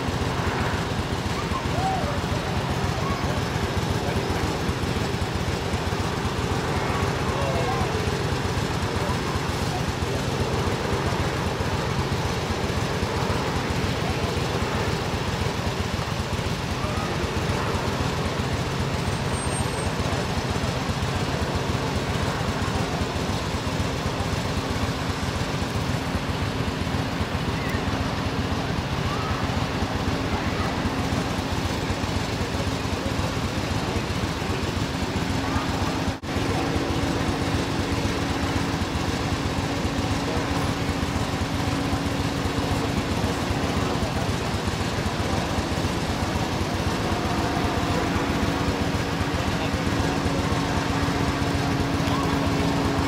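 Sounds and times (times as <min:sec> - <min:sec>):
vehicle engines idling: 0:00.0 - 0:53.0.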